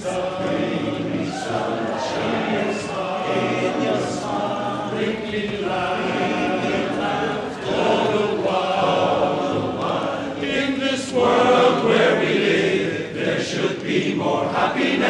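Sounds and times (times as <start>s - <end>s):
men's chorus singing a cappella: 0.0s - 15.0s.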